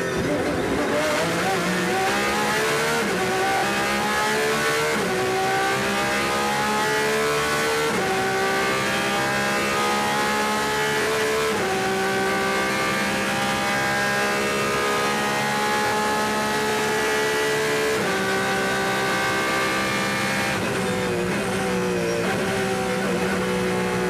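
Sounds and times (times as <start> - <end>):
racing engine accelerating: 0.0 - 24.0.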